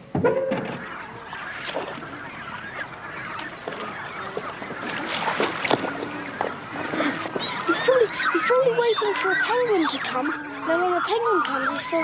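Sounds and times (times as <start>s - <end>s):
penguin colony calling: 0.6s - 12.0s.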